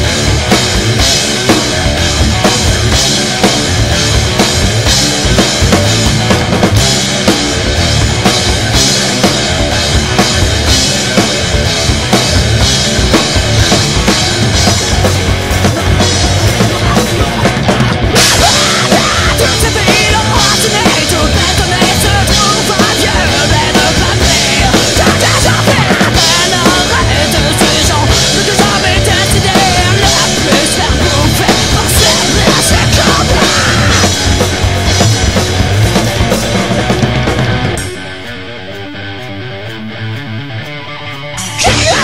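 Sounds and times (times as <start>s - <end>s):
drum kit and bass drum: 0.0s - 42.0s
rock band playing live: 0.0s - 42.0s.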